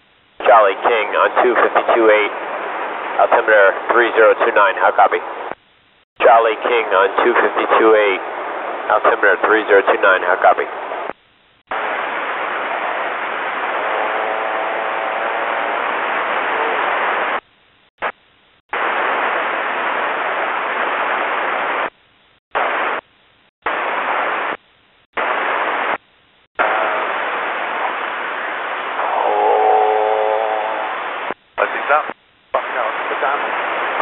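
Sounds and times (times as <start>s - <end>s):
radio static hiss: 0.4s - 5.6s, 6.2s - 22.0s, 22.6s - 26.0s, 26.6s - 34.0s.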